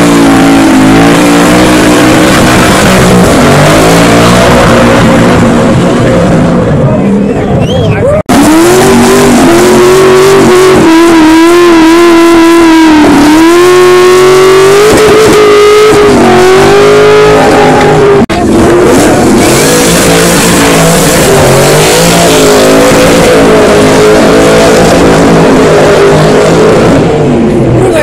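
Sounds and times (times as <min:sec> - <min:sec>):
car engine revving hard: 0:00.0 - 0:06.8, 0:08.2 - 0:28.0.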